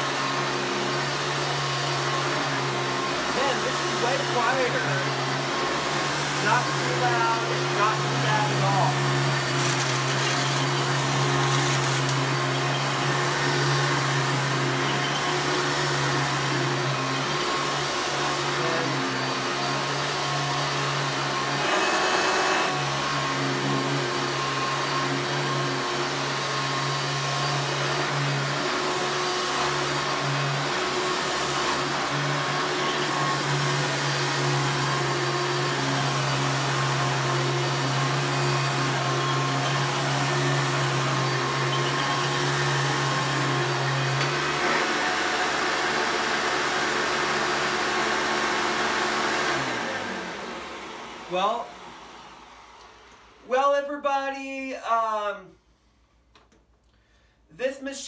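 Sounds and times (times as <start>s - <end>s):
vacuum cleaner running: 0.0s - 53.8s.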